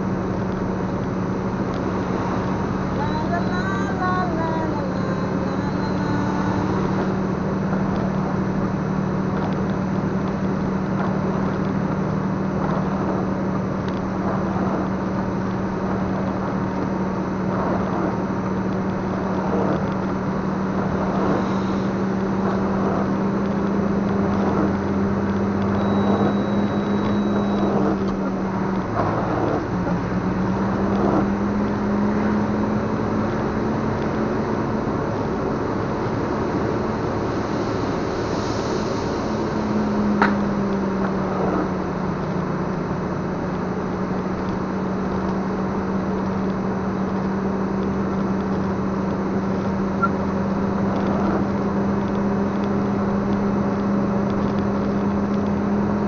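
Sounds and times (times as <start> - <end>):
road and tyre noise: 0.0 - 56.0
vehicle engine drone: 0.0 - 56.0.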